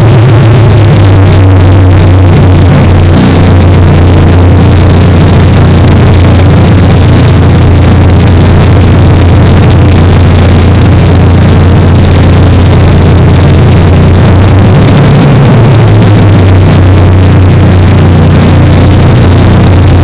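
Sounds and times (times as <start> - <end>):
motor running: 0.0 - 20.0.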